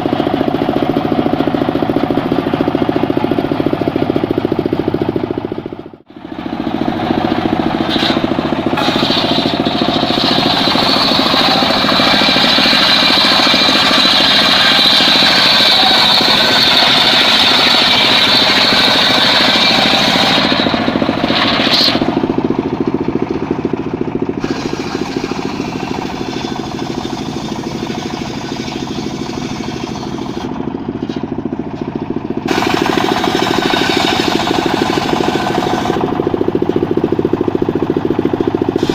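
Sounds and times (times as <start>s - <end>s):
saw cutting whine: 0.0s - 38.9s
sawmill engine running: 0.0s - 38.9s.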